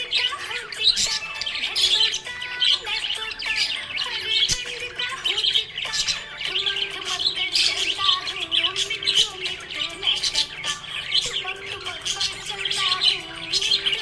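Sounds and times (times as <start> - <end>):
budgies chirping and squawking: 0.0 - 14.0.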